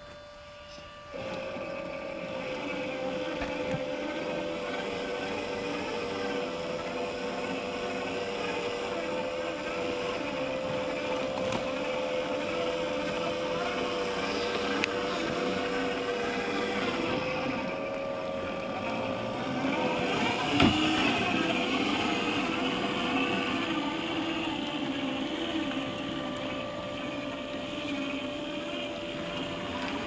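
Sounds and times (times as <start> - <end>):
toy truck electric motors whining: 0.0 - 30.0.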